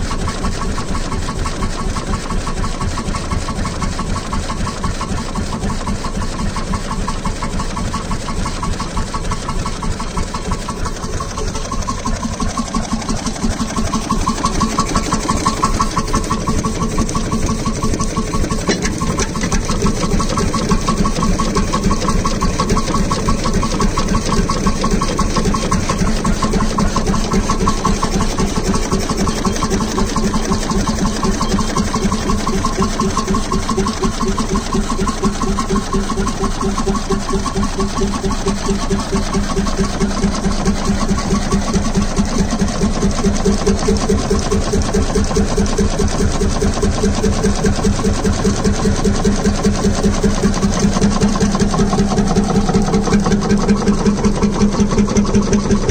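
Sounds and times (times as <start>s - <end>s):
stationary engine running: 0.0s - 55.9s.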